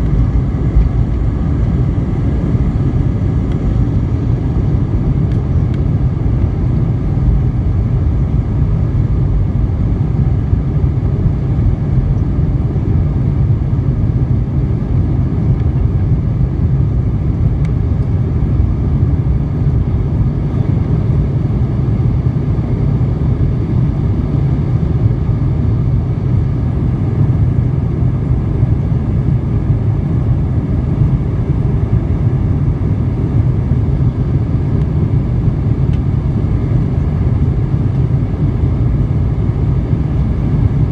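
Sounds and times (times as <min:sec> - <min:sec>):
jet engines rumbling in cabin: 0:00.0 - 0:40.9.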